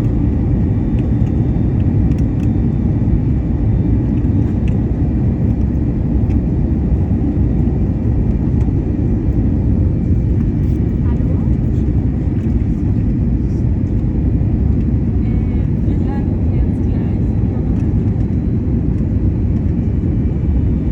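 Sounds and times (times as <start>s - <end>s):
airliner deep rumble: 0.0s - 20.9s
faint jet whine: 0.0s - 20.9s.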